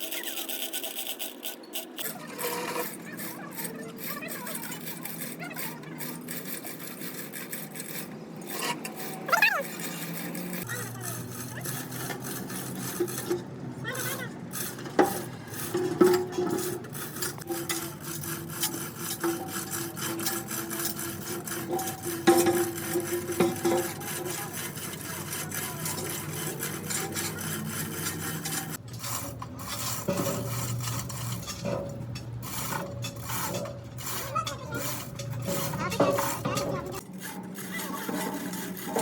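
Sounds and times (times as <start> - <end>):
hand tool rasping on workpiece: 0.0 - 39.0.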